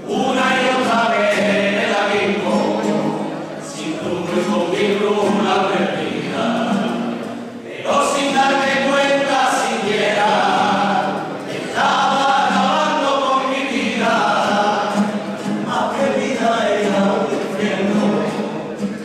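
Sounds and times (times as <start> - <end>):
choir singing: 0.0 - 18.9.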